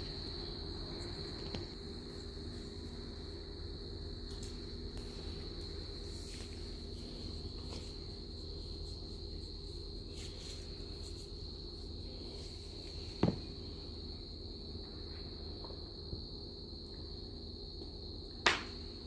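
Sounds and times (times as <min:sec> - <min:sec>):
high insect chorus: 0:00.0 - 0:19.0
steady low hum: 0:00.0 - 0:19.0.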